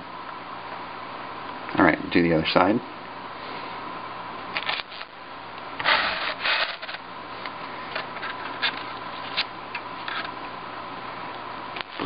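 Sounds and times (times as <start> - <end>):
faint high hum: 0.0 - 12.0.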